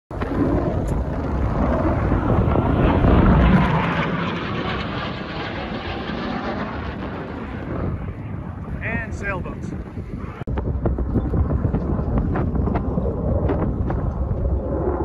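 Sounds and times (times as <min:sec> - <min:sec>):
fighter jet roar passing overhead: 0:00.1 - 0:15.0.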